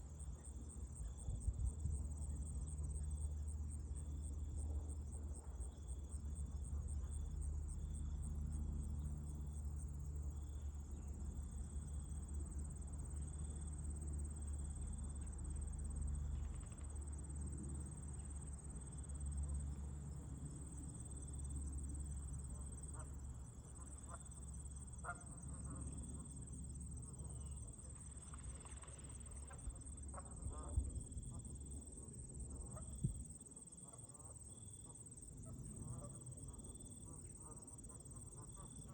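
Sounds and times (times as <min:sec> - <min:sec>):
low rumble of wind: 0:00.0 - 0:38.3
crickets chirping: 0:00.0 - 0:38.9.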